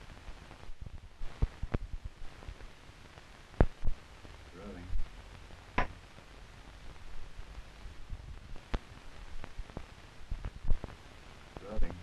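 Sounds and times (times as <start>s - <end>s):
low rumble: 0.0s - 3.0s, 3.6s - 12.0s.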